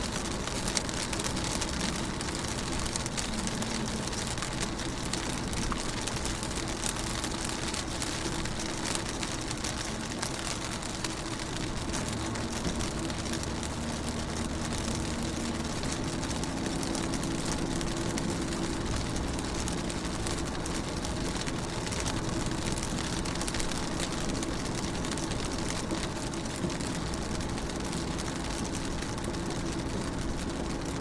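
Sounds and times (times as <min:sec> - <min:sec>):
rain on car windows: 0:00.0 - 0:31.0.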